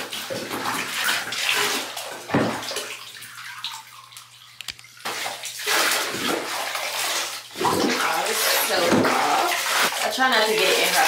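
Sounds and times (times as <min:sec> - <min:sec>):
water splashing in a bathtub: 0:00.0 - 0:11.0.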